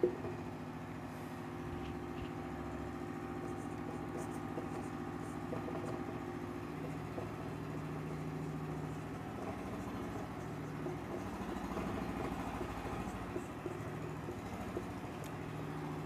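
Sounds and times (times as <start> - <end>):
machine humming with low pulsing: 0.0 - 16.0
marker strokes on whiteboard: 2.8 - 16.0.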